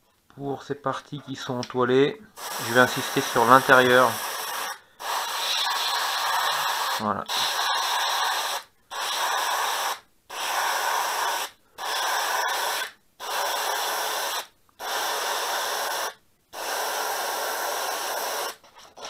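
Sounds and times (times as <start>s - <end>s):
airbrush spraying paint: 2.4s - 19.0s.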